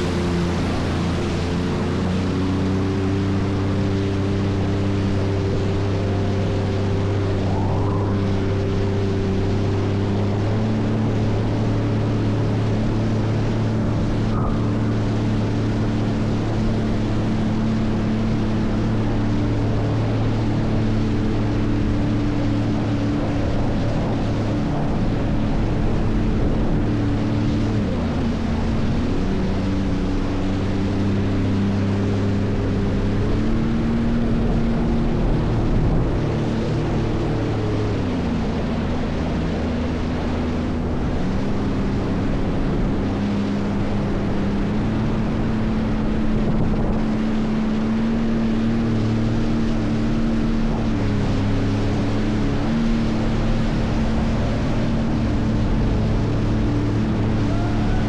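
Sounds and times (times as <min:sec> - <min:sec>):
jet ski engine running: 0:00.0 - 0:58.0
water and wind noise: 0:00.0 - 0:58.0.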